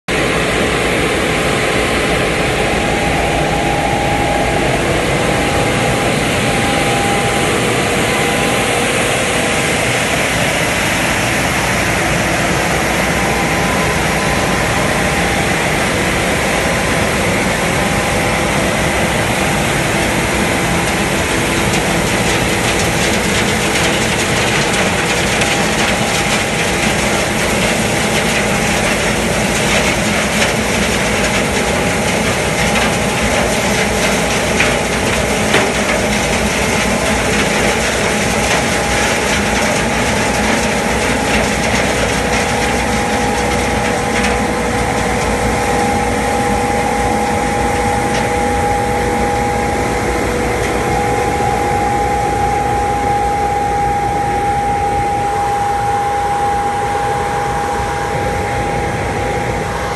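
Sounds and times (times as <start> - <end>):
machine whining tones: 0.1 - 59.9
road sweeper machinery running: 0.1 - 59.9.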